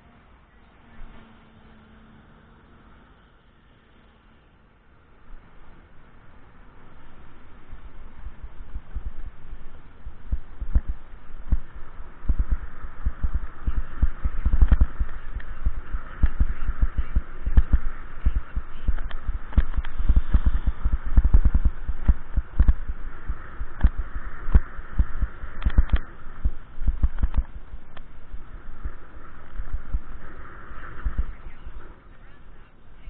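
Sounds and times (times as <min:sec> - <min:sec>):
wind buffeting microphone: 0:05.2 - 0:33.0.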